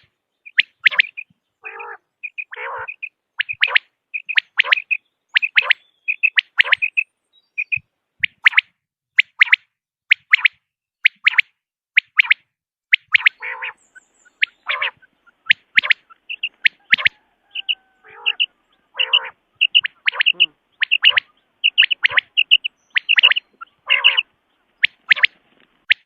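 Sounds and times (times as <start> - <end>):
quail calling: 0.0 - 8.7, 12.2 - 26.0.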